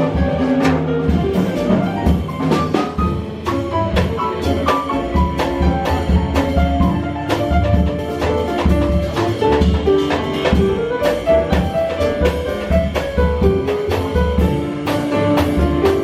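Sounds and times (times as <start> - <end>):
bass line: 0.0 - 16.0
drum kit beat: 0.0 - 16.0.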